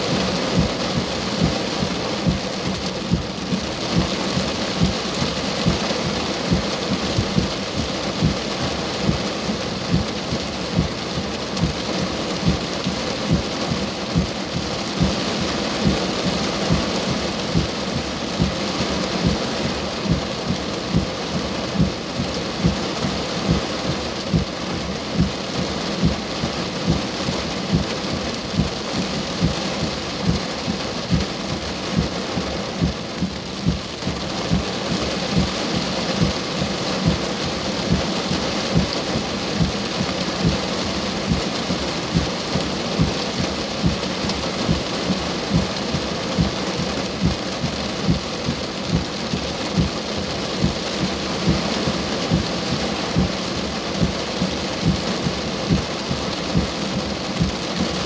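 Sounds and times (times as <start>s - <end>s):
heavy rain falling: 0.0s - 58.0s
regular low thump: 0.2s - 58.0s.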